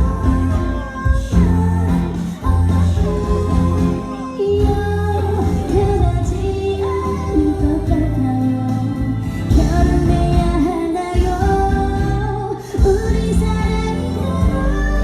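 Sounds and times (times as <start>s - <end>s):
backing music: 0.0s - 15.0s
woman singing amplified ballad: 0.0s - 15.0s.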